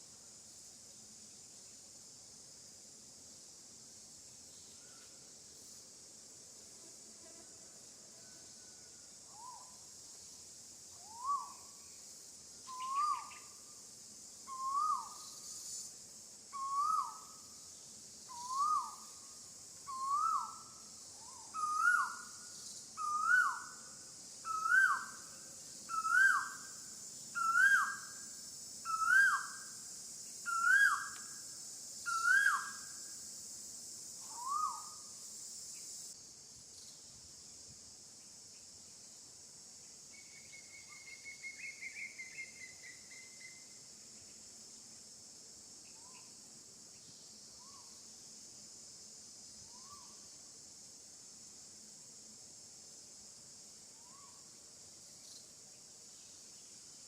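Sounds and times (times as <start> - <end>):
high insect buzz: 0.0 - 57.0.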